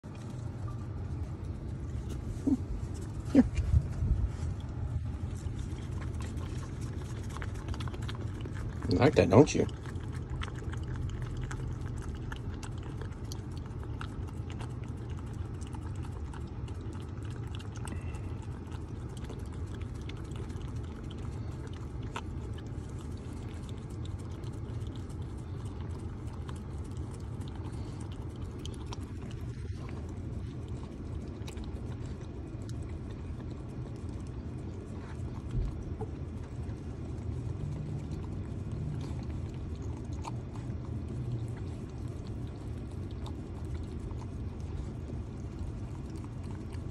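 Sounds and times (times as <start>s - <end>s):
puppy licking and lapping: 0.0s - 46.9s.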